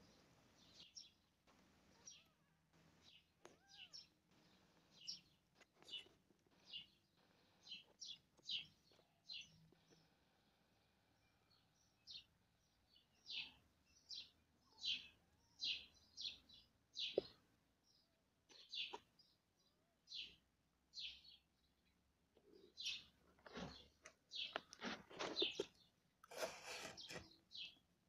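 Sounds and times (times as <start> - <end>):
small bird chirping: 0.0 - 10.6, 11.2 - 27.9.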